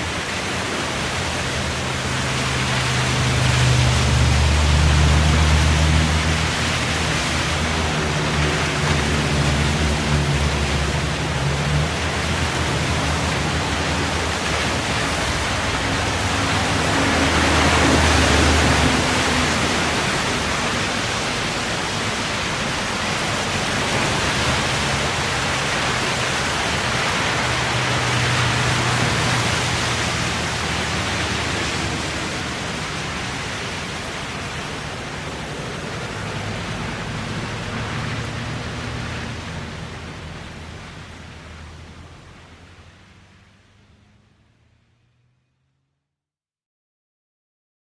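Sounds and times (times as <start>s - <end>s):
low engine hum: 0.0s - 45.2s
tyres hissing on wet road: 0.0s - 45.3s.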